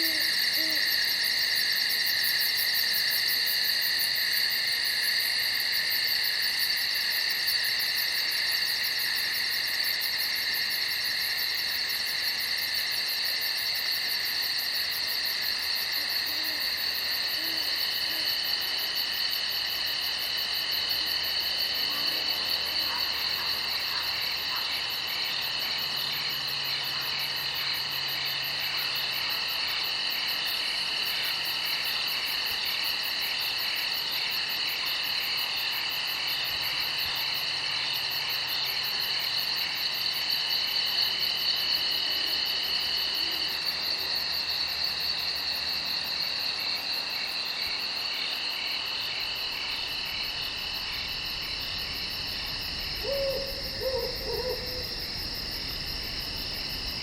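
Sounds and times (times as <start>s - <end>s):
short lower insect calls: 0.0s - 34.0s, 40.7s - 57.0s
crickets and insects trilling: 0.0s - 57.0s.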